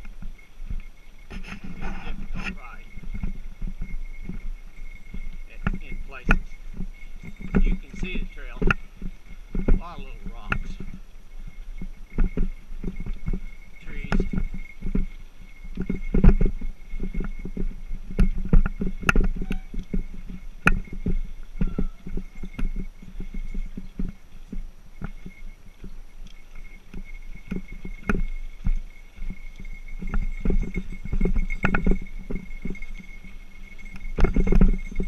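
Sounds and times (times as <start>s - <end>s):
bike knocking and rattling: 0.0s - 35.0s
bike tyres rolling on gravel: 0.0s - 35.0s.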